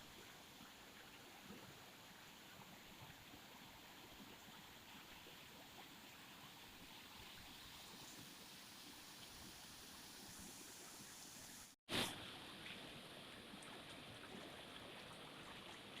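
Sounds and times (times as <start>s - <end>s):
flowing water: 0.0s - 16.0s.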